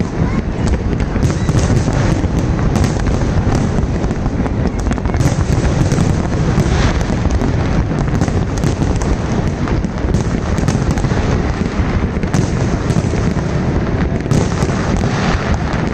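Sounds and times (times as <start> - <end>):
fireworks booming: 0.0 - 15.9
fireworks crackling and popping: 0.0 - 15.9.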